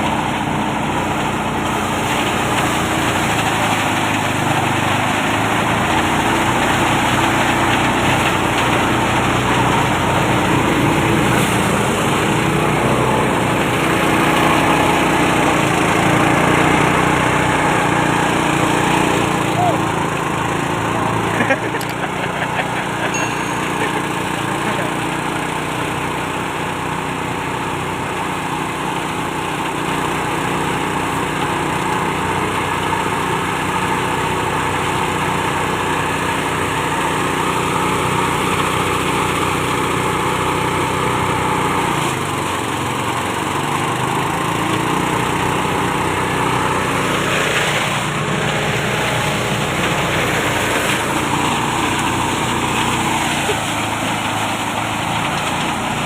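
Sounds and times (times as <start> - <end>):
thresher engine running: 0.0 - 56.0.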